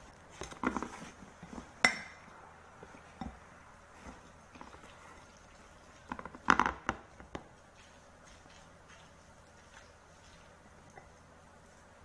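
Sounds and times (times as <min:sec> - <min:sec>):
soft squishing: 0:00.0 - 0:12.0
spatula mixing food in bowl: 0:00.0 - 0:12.0.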